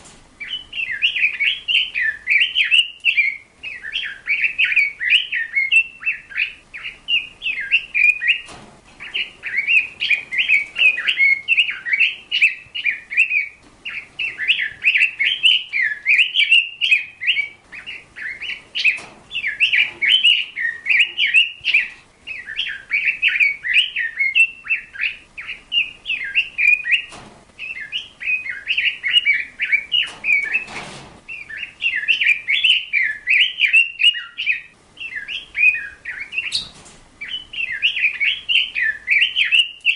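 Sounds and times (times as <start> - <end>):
bird chirping and warbling: 0.4 - 39.9.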